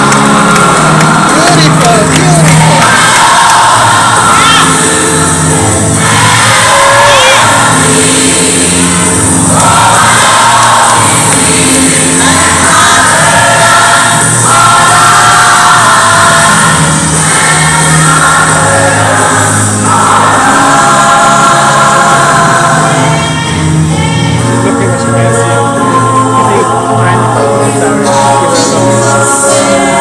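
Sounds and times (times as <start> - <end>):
choir singing gospel song: 0.0 - 30.0.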